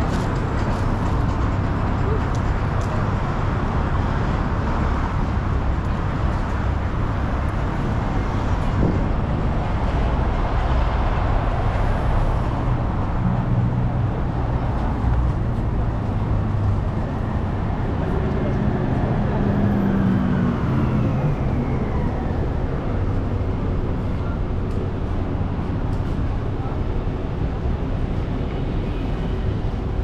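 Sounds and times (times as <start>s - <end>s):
rumble of motor vehicles: 0.0s - 30.0s.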